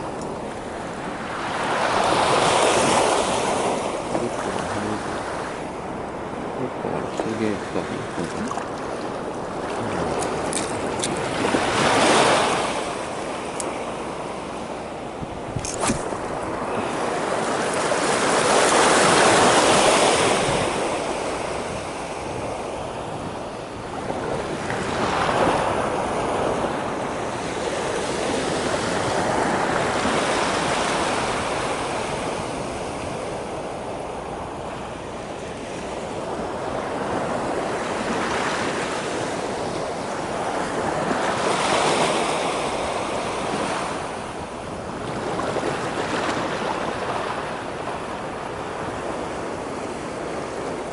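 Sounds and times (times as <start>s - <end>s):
waves breaking: 0.0s - 50.9s
wind: 0.0s - 50.9s.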